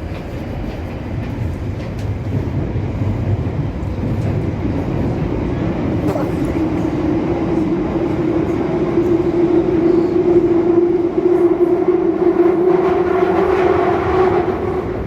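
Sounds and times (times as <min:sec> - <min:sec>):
train rumbling through tunnel: 0:00.0 - 0:15.0.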